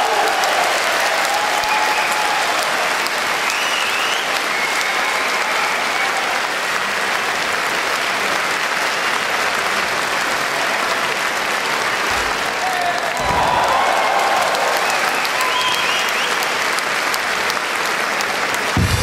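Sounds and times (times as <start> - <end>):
crowd cheering and applauding: 0.0 - 19.0.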